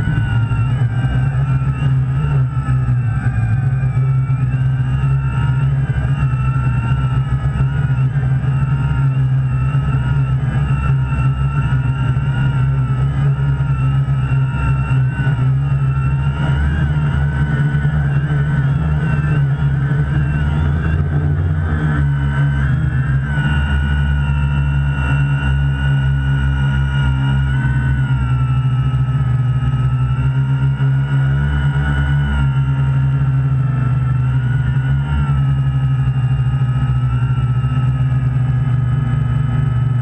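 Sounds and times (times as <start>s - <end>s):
drone motors and propellers whining: 0.0s - 40.0s.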